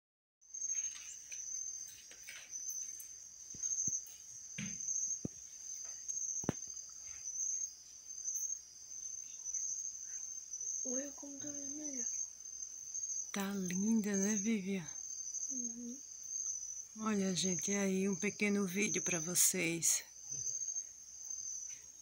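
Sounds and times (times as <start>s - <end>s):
crickets chirping: 0.4s - 22.0s.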